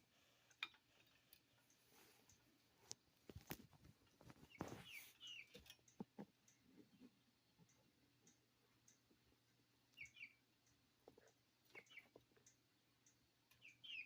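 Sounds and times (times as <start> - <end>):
roosters clicking and tapping: 0.0 - 14.0.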